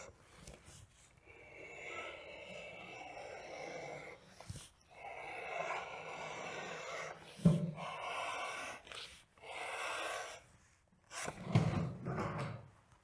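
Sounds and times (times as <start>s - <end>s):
blade rasping through leather: 0.0s - 10.5s.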